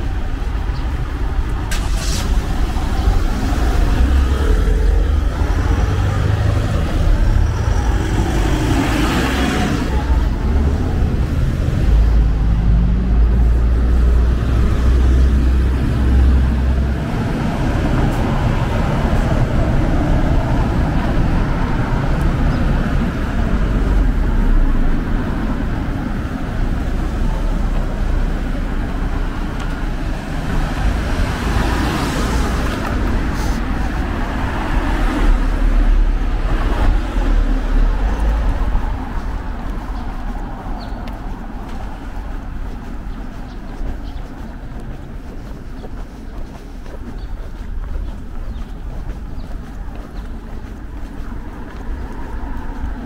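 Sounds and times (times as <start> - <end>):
bus passing: 0.0 - 53.0
cars passing: 0.0 - 53.0.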